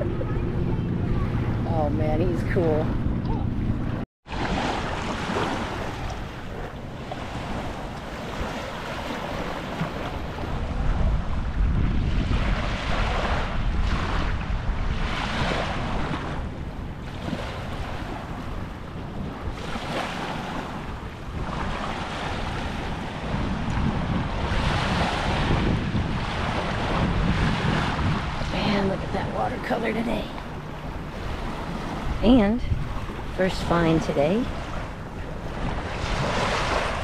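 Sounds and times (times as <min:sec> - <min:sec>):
wind buffeting microphone: 0:00.0 - 0:37.0
waves lapping on sand: 0:04.3 - 0:37.0.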